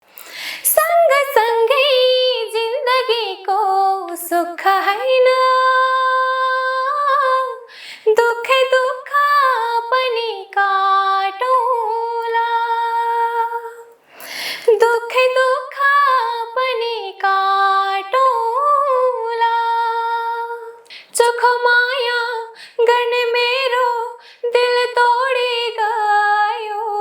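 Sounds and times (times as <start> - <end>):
woman singing unaccompanied: 0.6 - 14.0, 14.6 - 27.0.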